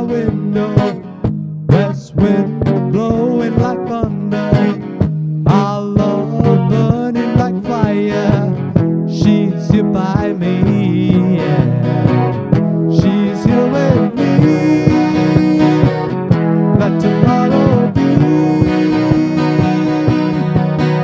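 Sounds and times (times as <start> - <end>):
acoustic guitar strumming: 0.0 - 21.0
man singing: 0.0 - 21.0.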